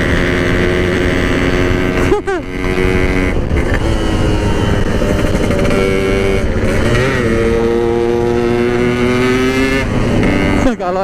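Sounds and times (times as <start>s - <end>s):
two-stroke motorcycle engine running: 0.0s - 11.0s
wind rumble on microphone: 0.0s - 11.0s.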